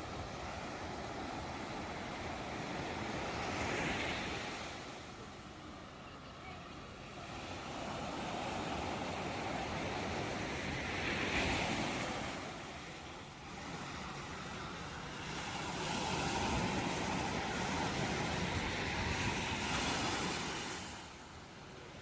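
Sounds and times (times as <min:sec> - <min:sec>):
ocean surf rushing: 0:00.0 - 0:22.0.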